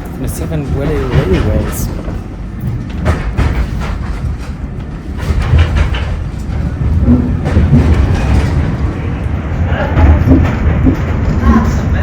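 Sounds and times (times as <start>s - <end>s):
steam train rumbling: 0.0s - 12.0s
wheels clicking over rails: 0.0s - 12.0s.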